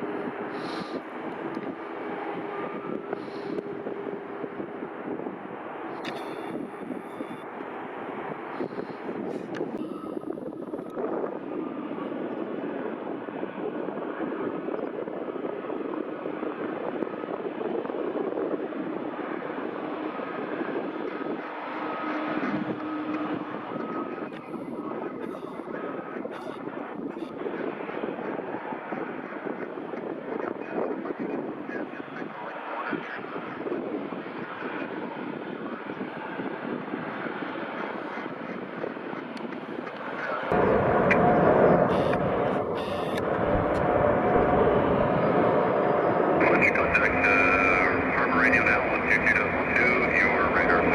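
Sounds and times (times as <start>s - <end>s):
jet engine rush with whine: 0.0s - 50.9s.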